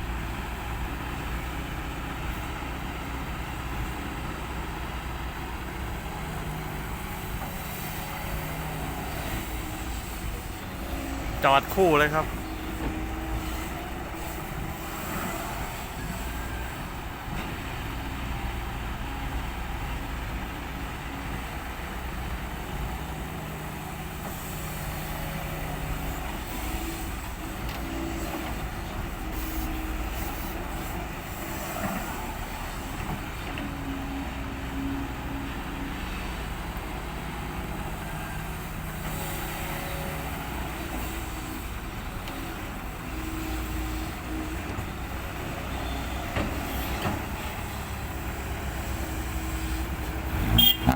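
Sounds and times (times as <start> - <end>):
diesel excavator and trucks running: 0.0 - 50.9.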